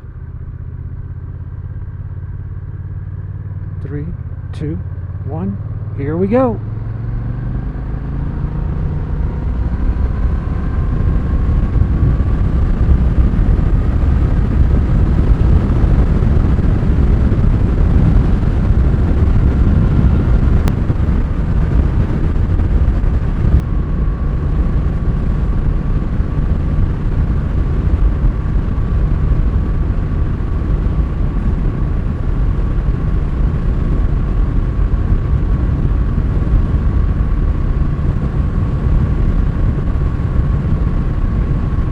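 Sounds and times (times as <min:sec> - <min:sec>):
wind rush: 0:06.6 - 0:41.9.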